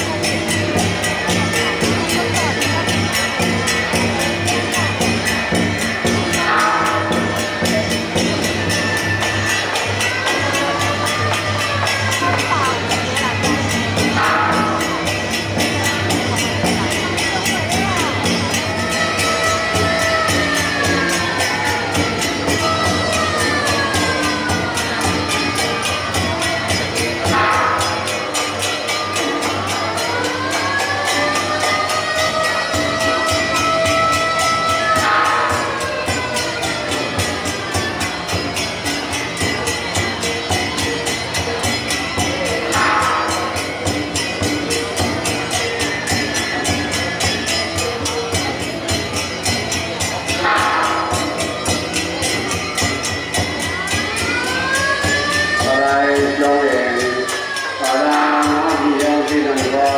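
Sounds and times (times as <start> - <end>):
loud festival music: 0.0 - 59.9
procession percussion with cymbals: 0.0 - 59.9.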